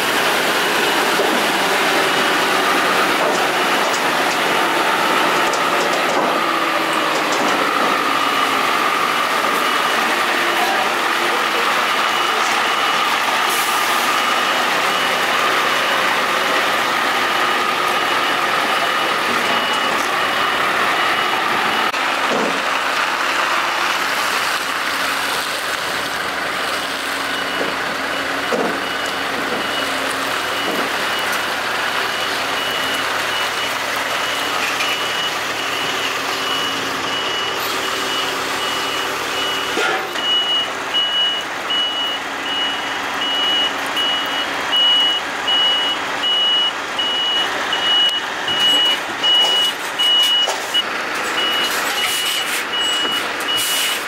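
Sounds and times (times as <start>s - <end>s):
diesel engine at low revs: 0.0s - 54.0s
truck reversing alarm beeping: 0.0s - 54.0s.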